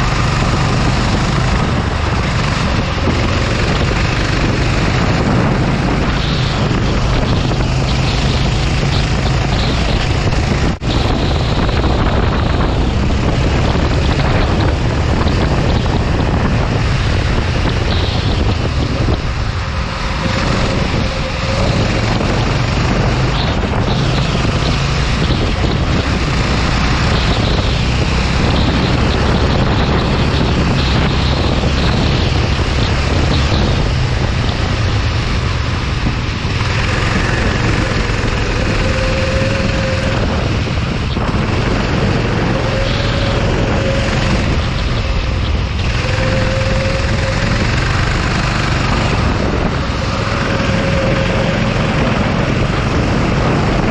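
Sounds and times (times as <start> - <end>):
kart engine accelerating: 0.0 - 53.9
wind noise on microphone: 0.0 - 53.9.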